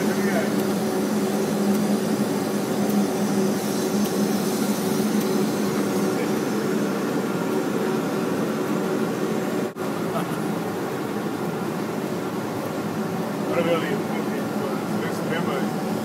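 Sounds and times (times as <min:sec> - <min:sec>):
printing press running: 0:00.0 - 0:16.0.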